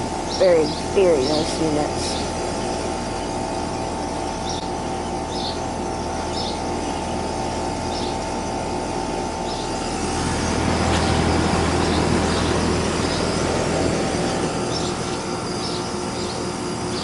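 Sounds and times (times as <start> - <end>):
air conditioner hum and fan: 0.0 - 17.0.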